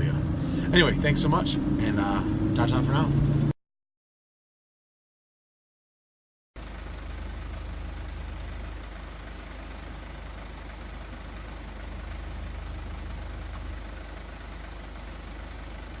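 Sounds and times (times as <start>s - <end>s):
vehicle engine idling: 0.0s - 3.4s, 6.6s - 16.0s.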